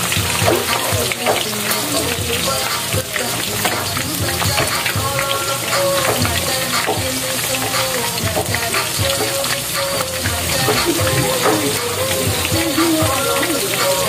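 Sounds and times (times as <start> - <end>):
oil sizzling while deep-frying: 0.0 - 14.0.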